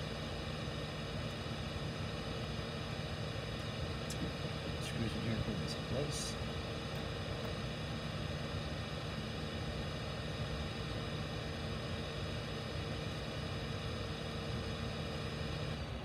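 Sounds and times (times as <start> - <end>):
faint high whine: 0.0 - 16.0
steady machine hum: 0.0 - 16.0.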